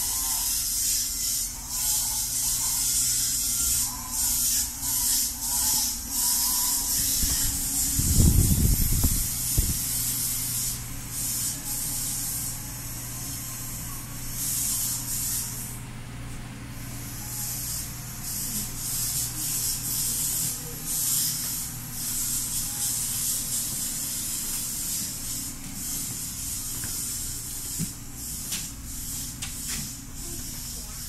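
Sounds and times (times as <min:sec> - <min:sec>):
steady loud hiss: 0:00.0 - 0:15.8, 0:16.9 - 0:31.0.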